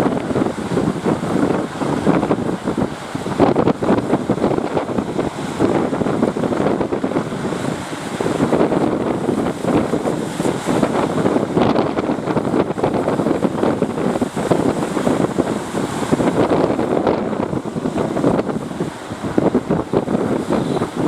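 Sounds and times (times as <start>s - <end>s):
surf rushing: 0.0s - 21.0s
wind buffeting microphone: 0.0s - 21.0s.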